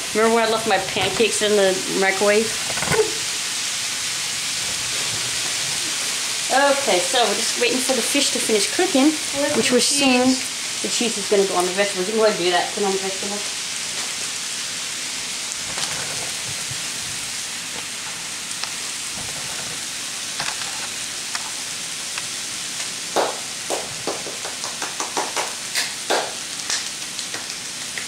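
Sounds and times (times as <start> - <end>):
vegetables sizzling in a skillet: 0.0 - 28.0.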